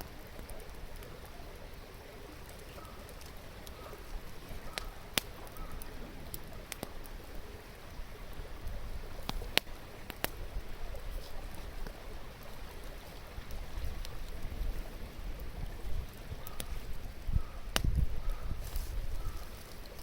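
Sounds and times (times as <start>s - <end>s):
campfire crackling and popping: 0.0s - 20.0s
flowing stream: 0.0s - 20.0s.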